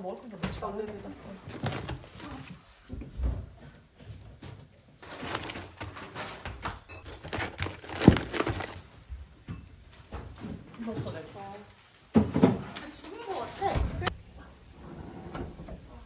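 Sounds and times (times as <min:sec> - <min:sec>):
objects knocking and rustling: 0:00.0 - 0:14.2.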